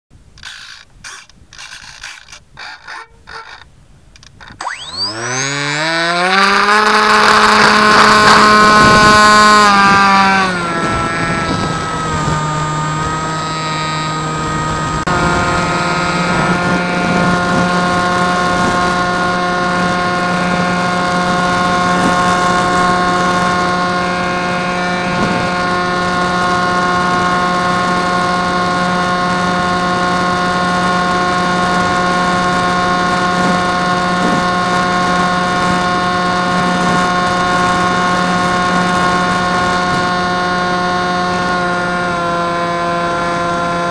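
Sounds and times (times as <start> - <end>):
aircraft engine and propeller droning: 4.2 - 43.9.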